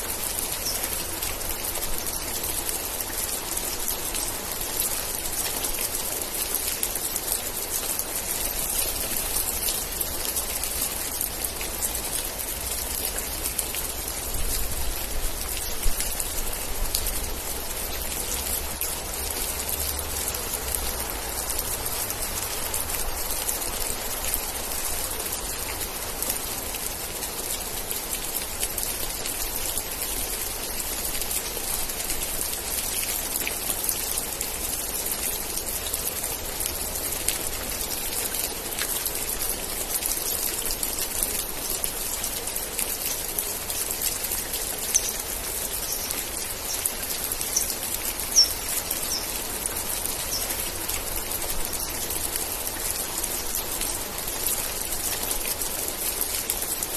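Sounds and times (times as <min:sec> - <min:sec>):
steady rain pattering: 0:00.0 - 0:56.9.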